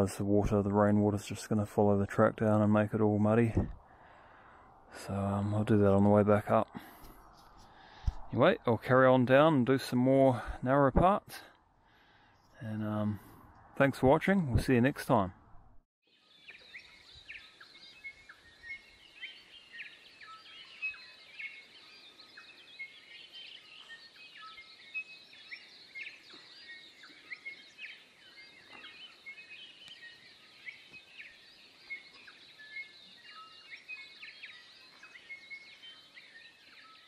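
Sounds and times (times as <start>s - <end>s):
chorus of birds singing: 0.0s - 15.3s, 16.0s - 37.0s.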